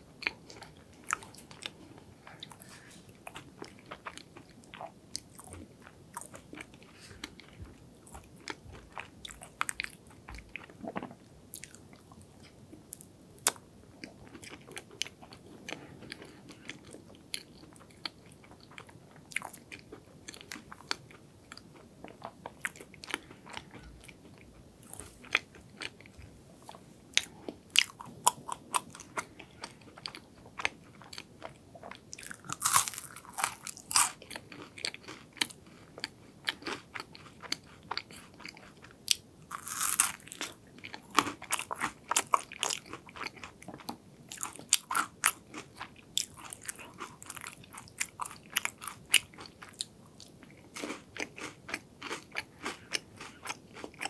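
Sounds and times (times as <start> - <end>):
chewing and crunching: 0.2 - 54.0.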